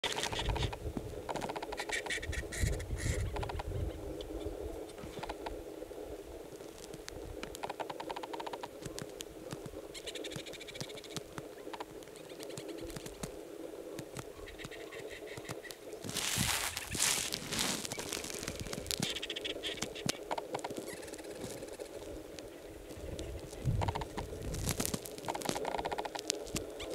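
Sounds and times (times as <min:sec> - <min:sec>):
dry grass rustling and crackling: 0:00.0 - 0:26.9.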